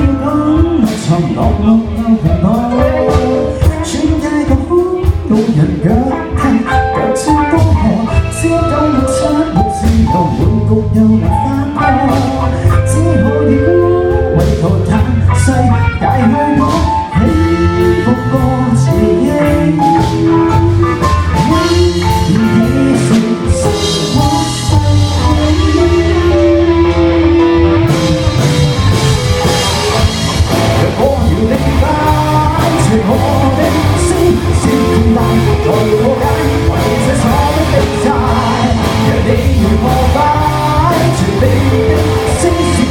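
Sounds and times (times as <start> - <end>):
drum kit: 0.0 - 42.9
guitar: 0.0 - 42.9
person singing: 0.0 - 42.9.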